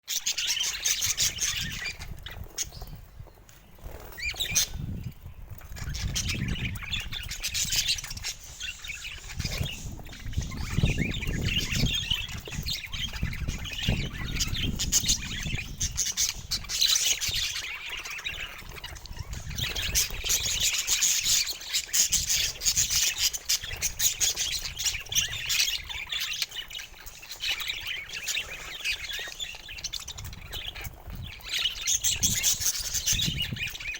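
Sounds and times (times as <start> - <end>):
budgerigars chattering: 0.1 - 3.0, 5.7 - 33.9.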